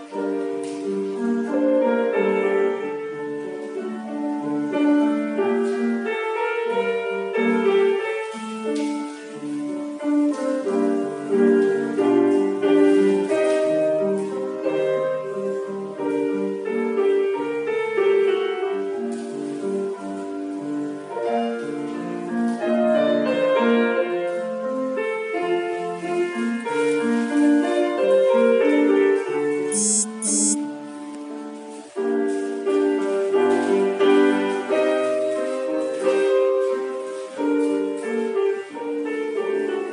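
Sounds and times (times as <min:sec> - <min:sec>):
solo piano classical accompaniment: 0:00.0 - 0:39.9.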